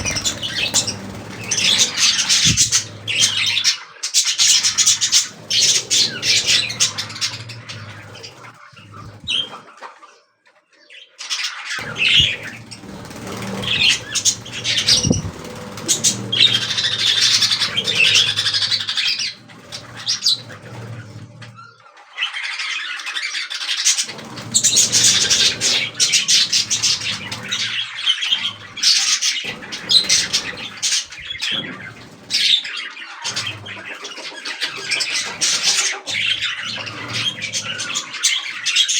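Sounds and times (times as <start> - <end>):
budgerigars chattering and squawking: 0.0 - 10.1, 10.9 - 38.9.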